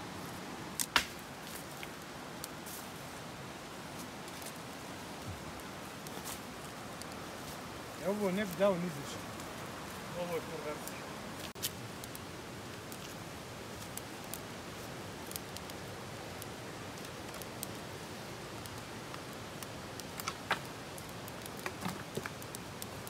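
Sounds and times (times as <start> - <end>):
creek rushing: 0.0 - 21.0
campfire crackling and popping: 0.0 - 23.0.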